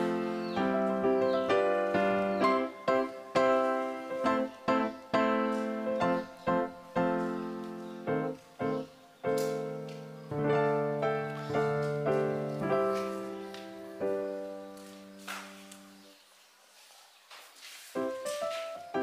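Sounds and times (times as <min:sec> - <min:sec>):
piano music: 0:00.0 - 0:16.2, 0:17.9 - 0:19.0.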